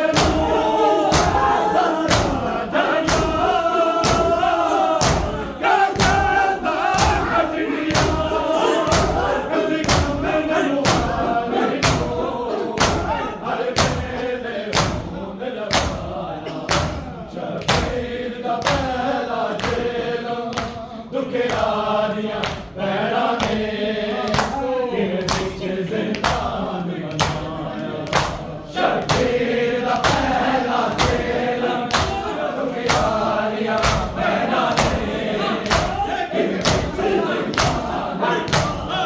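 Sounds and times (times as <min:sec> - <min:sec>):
men chanting in chorus: 0:00.0 - 0:39.0.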